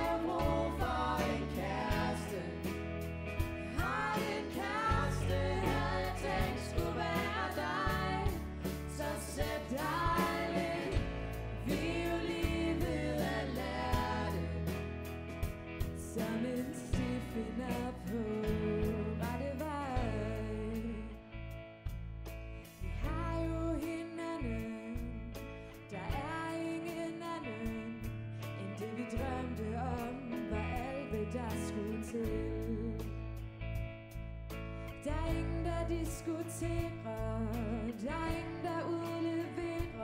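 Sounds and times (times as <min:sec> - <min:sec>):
pop band playing: 0:00.0 - 0:40.0.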